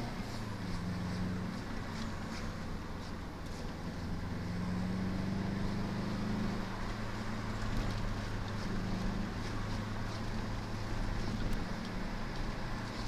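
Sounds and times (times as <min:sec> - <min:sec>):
car engine running: 0:00.0 - 0:13.0
road and wind noise: 0:00.0 - 0:13.0.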